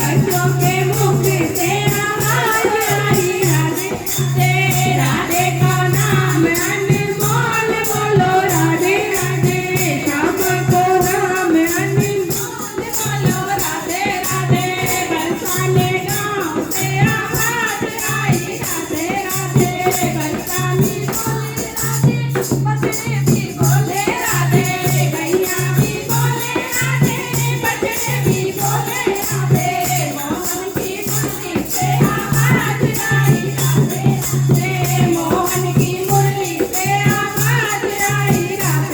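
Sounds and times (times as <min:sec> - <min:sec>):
jingling percussion rhythm: 0:00.0 - 0:38.9.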